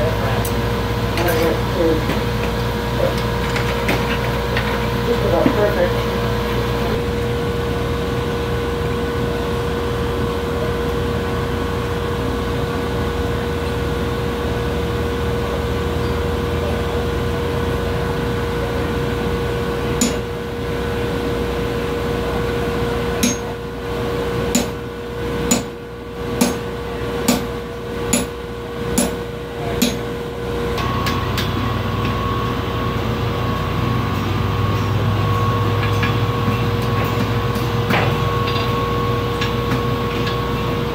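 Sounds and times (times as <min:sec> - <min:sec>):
steady drone: 0:00.0 - 0:40.9.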